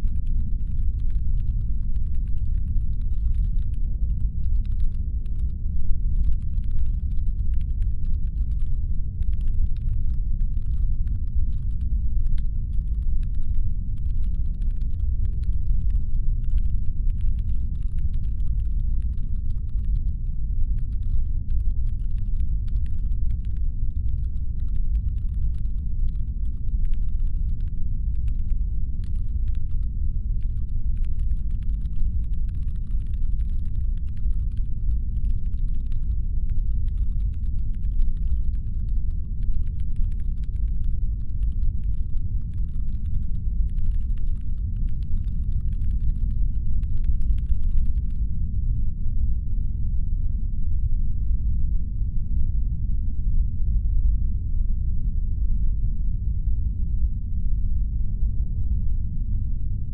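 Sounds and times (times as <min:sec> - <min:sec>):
deep engine hum rumble: 0:00.0 - 0:48.9.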